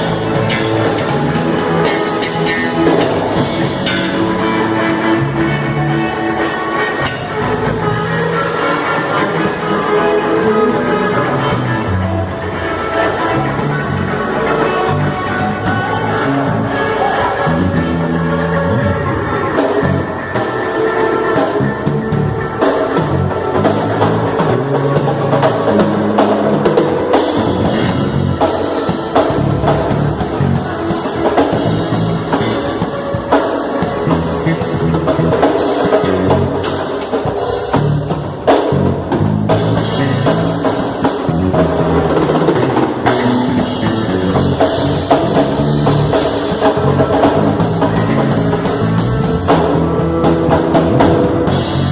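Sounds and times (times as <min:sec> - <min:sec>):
instrumental rock music: 0:00.0 - 0:51.9.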